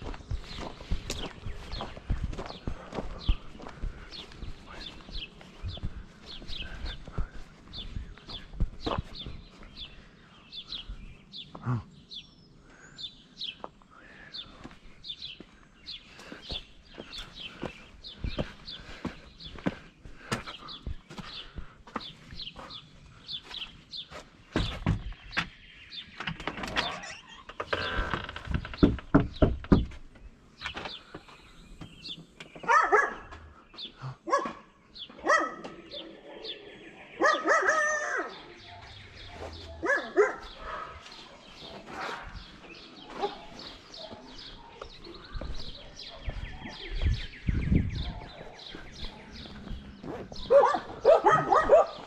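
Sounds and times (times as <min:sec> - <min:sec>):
footsteps on wooden deck: 0:00.0 - 0:11.8, 0:13.5 - 0:35.8, 0:38.8 - 0:52.0.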